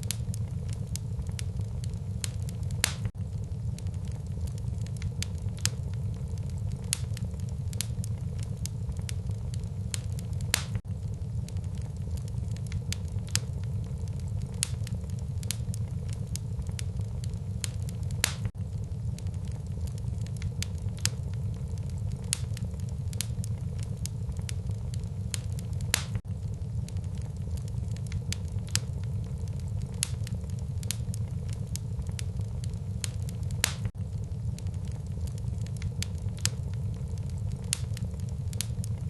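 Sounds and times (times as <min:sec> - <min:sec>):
sharp pops of fire: 0:00.0 - 0:39.0
wood fire crackling: 0:00.0 - 0:39.0.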